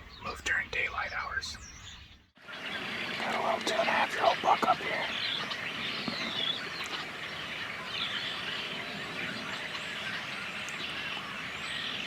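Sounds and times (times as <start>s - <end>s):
faint bird chirps: 0.0s - 12.0s
outdoor background hiss: 0.0s - 12.0s.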